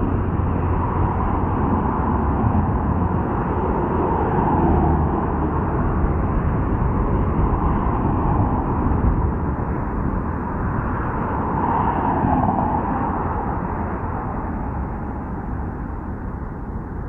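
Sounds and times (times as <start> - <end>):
car passing: 0.0 - 17.0
road traffic noise: 0.0 - 17.0.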